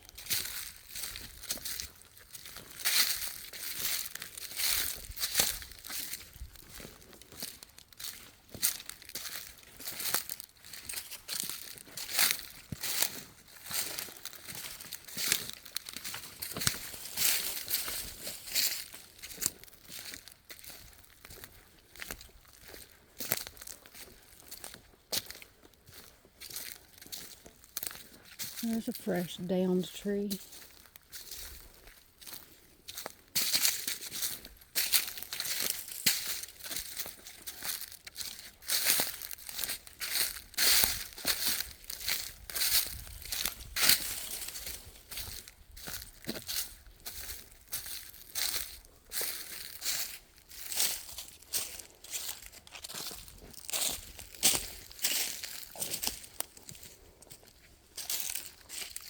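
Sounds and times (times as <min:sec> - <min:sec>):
footsteps on dry leaves: 0:00.0 - 0:59.0.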